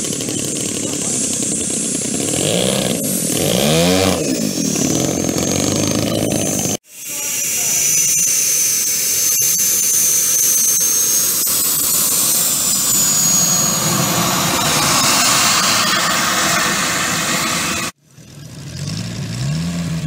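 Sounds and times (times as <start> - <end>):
model jet engine hiss and whine: 0.0 - 18.0.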